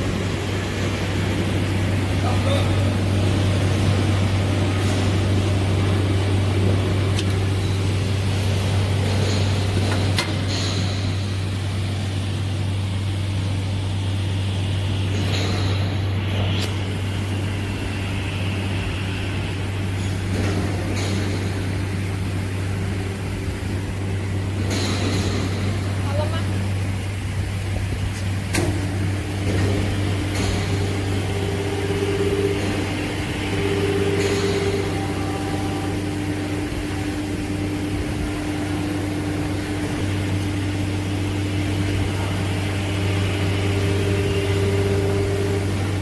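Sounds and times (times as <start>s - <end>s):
milling machine motor hum: 0.0s - 46.0s.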